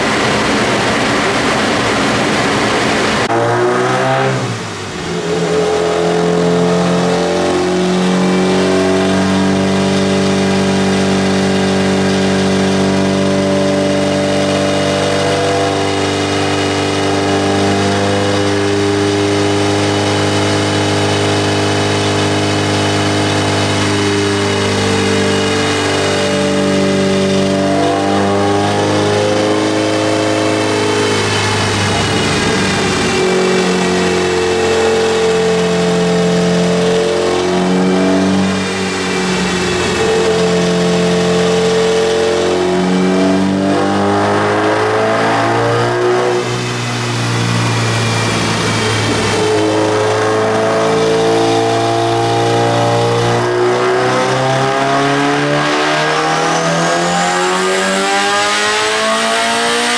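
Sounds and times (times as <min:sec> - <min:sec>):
car engine revving on a dyno: 0:00.0 - 0:59.9.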